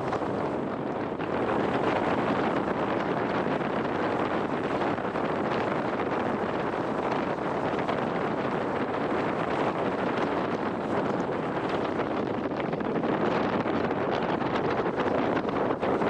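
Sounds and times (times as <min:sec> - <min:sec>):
jet boat rushing: 0:00.0 - 0:16.0
wind buffeting microphone: 0:00.0 - 0:16.0.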